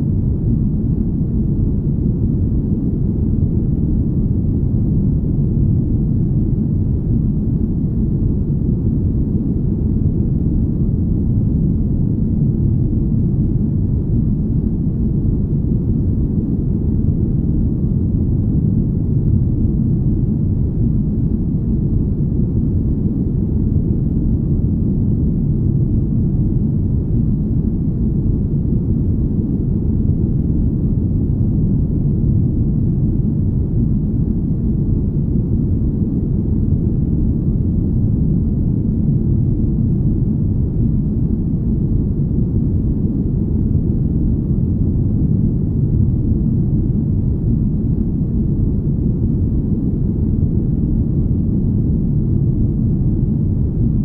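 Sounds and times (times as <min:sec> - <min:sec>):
deep smooth rumble: 0:00.0 - 0:54.0.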